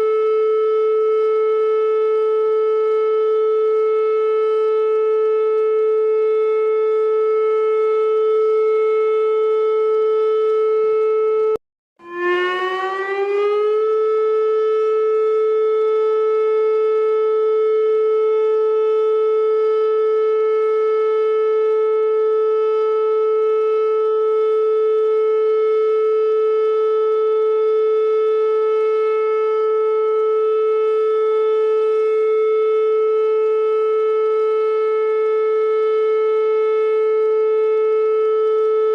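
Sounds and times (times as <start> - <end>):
alarm siren tone: 0.0 - 38.9.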